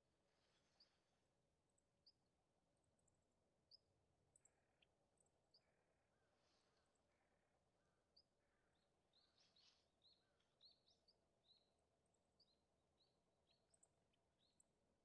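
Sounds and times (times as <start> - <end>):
songbirds chirping faintly: 0.0 - 15.0.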